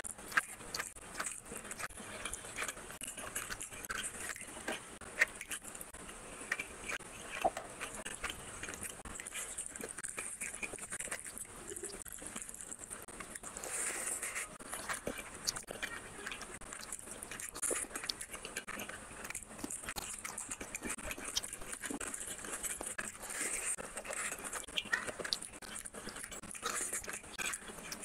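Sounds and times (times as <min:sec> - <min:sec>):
fingers mixing sticky rice: 0:00.0 - 0:28.0.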